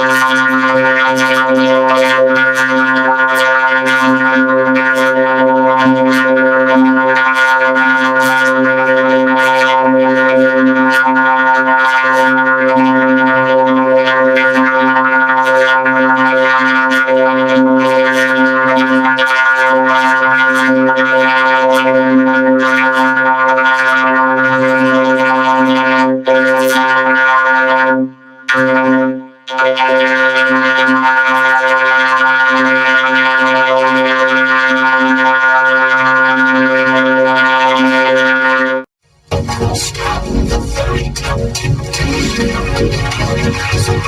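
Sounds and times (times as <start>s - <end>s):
low electronic synthesizer drone: 0.0s - 44.0s.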